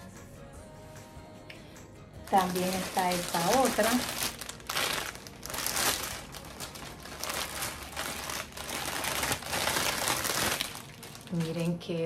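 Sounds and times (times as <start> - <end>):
plastic wrapping crinkling: 2.2 - 12.0.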